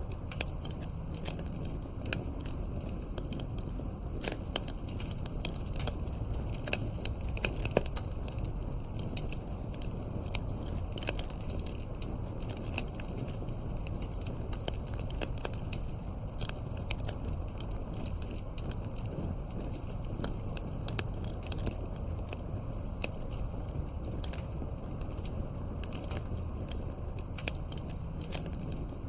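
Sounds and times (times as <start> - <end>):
low rumble of flames: 0.0 - 29.0
wood crackles and pops: 0.0 - 29.0.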